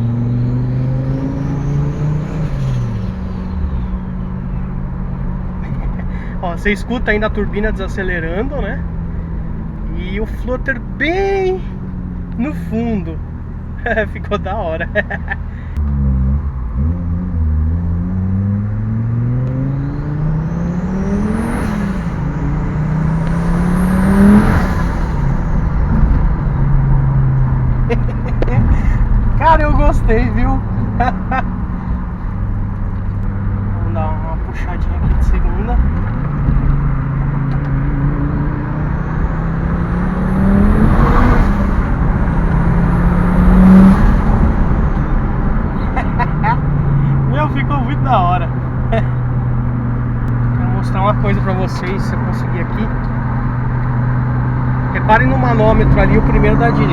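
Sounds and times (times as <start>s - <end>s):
car engine accelerating: 0.0s - 56.9s.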